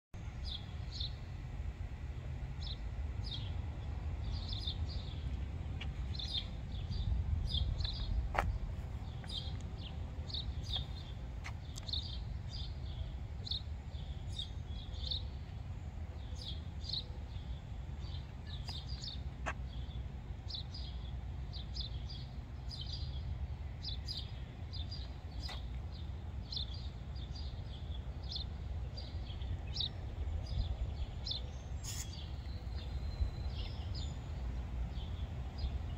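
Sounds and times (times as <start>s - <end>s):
small birds chirping: 0.2s - 1.3s, 2.5s - 35.9s
low outdoor rumble: 0.2s - 35.9s.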